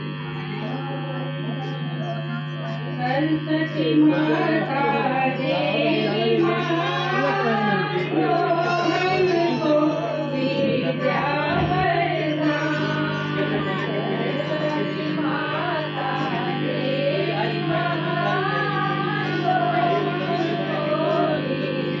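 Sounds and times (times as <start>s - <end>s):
person singing wavering melody: 3.1s - 22.0s.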